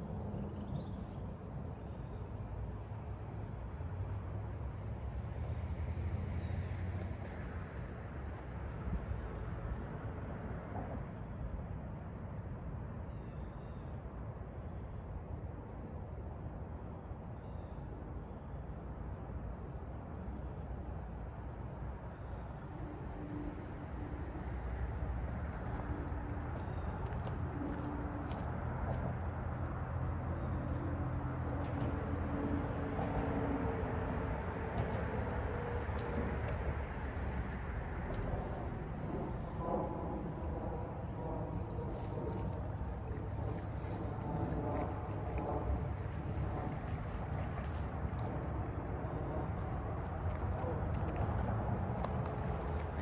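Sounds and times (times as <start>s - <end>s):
passing engines humming: 0.0s - 12.7s, 14.0s - 53.0s
distant road traffic: 0.0s - 53.0s.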